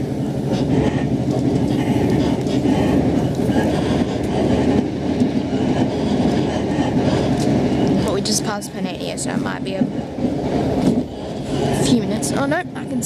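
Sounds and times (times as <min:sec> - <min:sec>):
diesel train engine rumble: 0:00.0 - 0:13.0
train wheels on rails: 0:00.0 - 0:13.0.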